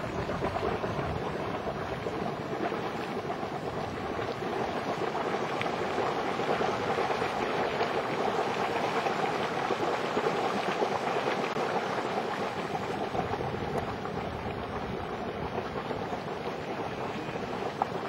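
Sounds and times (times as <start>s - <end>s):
hot spring water churning: 0.0s - 18.0s.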